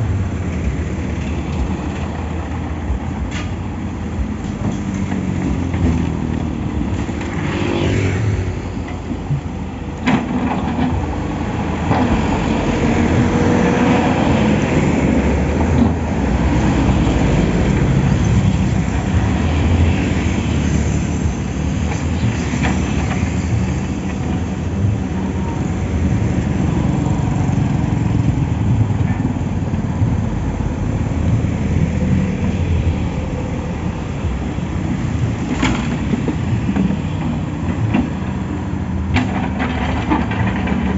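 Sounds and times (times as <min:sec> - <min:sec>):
excavator rumbling: 0:00.0 - 0:40.9
passing road traffic: 0:00.0 - 0:40.9.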